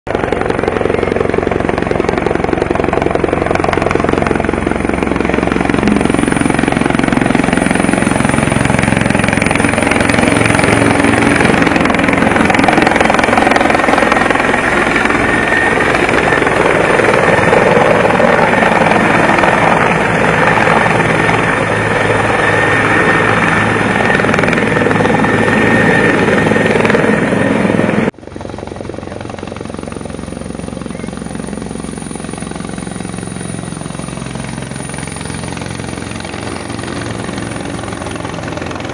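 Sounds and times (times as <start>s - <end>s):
helicopter hovering: 0.1s - 38.9s
high turbine whine: 0.1s - 38.9s.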